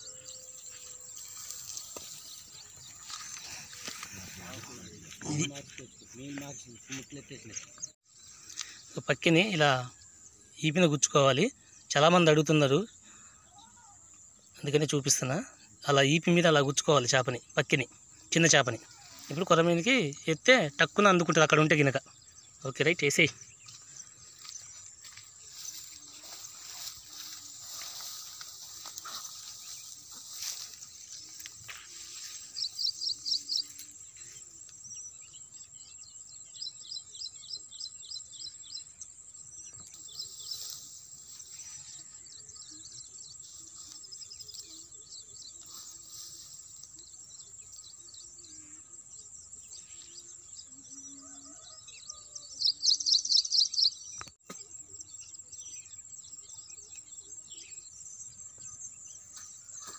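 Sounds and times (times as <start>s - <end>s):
birds chirping trills: 0.0s - 59.9s.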